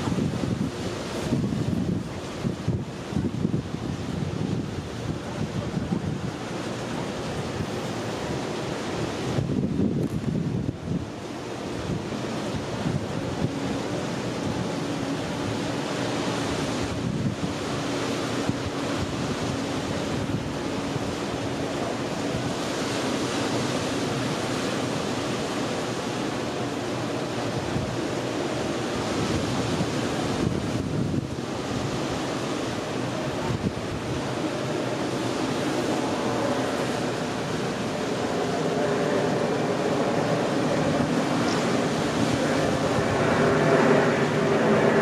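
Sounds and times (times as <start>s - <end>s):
waves washing against rocks: 0.0s - 45.0s
wind rumbling on microphone: 0.0s - 45.0s.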